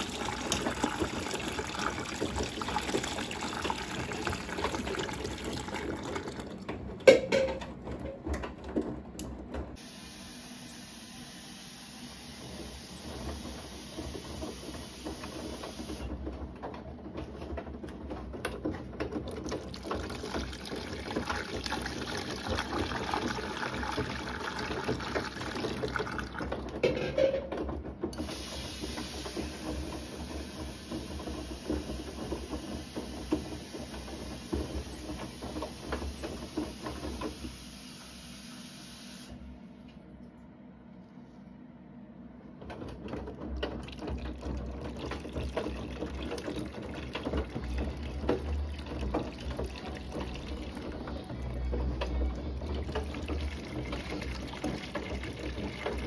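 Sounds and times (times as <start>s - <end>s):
washing machine drum turning: 0.0s - 37.9s, 42.5s - 56.0s.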